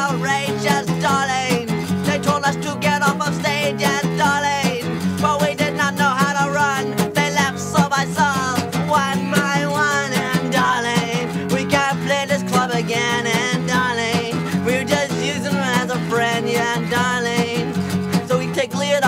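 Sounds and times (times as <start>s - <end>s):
punk rock song: 0.0s - 19.0s.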